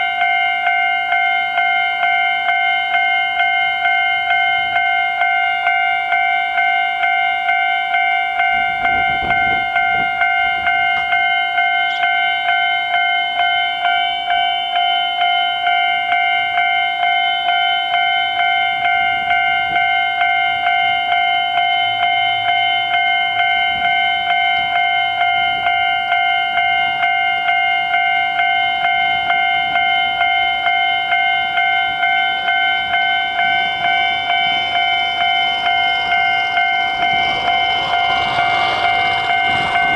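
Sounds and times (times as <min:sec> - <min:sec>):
level crossing alarm bell ringing: 0:00.0 - 0:39.9.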